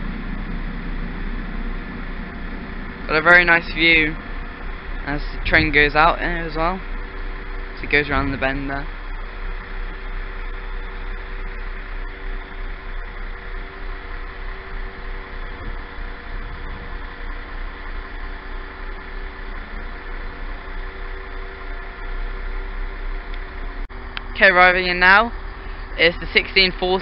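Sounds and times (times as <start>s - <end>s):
diesel train engine idling: 0.0s - 27.0s.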